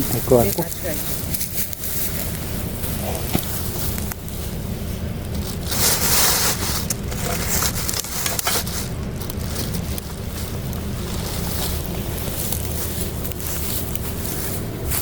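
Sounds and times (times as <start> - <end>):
handling rustling and scraping: 0.0 - 15.0.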